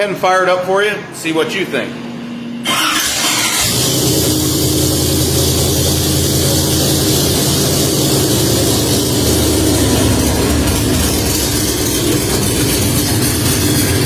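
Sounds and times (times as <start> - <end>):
engine cranking and idling: 2.6 - 14.0.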